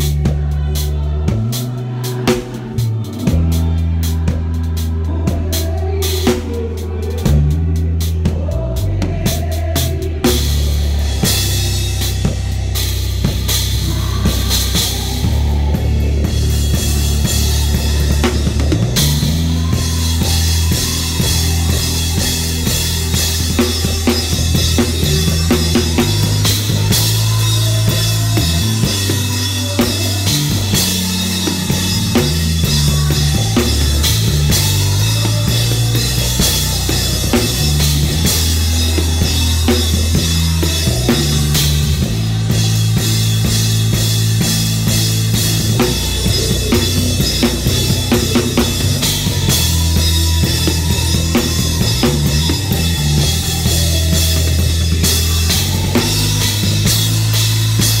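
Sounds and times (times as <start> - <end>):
drums and cymbals: 0.0 - 58.0
live band music: 0.0 - 58.0
low bass notes: 0.0 - 58.0.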